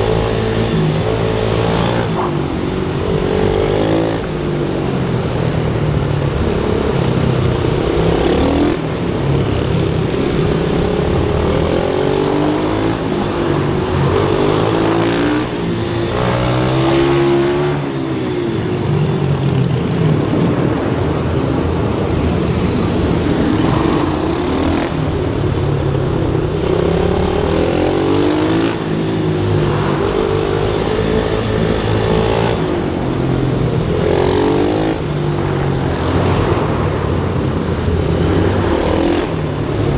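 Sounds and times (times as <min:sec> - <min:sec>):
small motorbike engines revving: 0:00.0 - 0:39.9.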